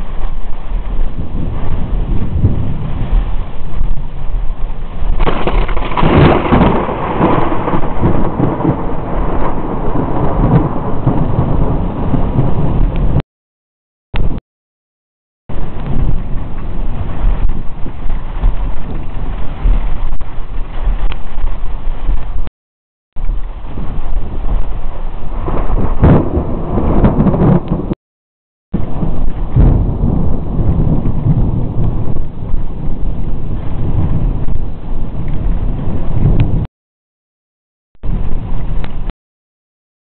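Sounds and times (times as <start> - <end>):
heavy rain: 0.0 - 13.2, 15.5 - 22.5, 23.2 - 28.0, 28.8 - 36.7, 38.0 - 39.1
thunder rumbling: 0.0 - 13.2, 15.5 - 22.5, 23.2 - 28.0, 28.8 - 36.7, 38.0 - 39.1.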